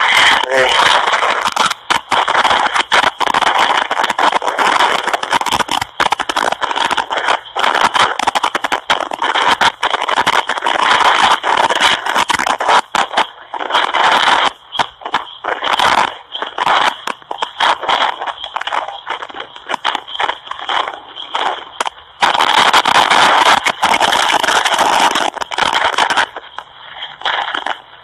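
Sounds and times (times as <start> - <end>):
crackling scraping on telephone line: 0.0 - 28.0.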